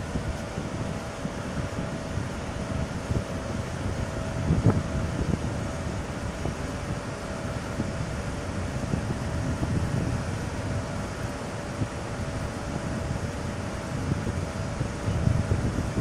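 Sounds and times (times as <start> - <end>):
ferry engines rumbling: 0.0 - 16.0
thin steady hum: 0.0 - 16.0.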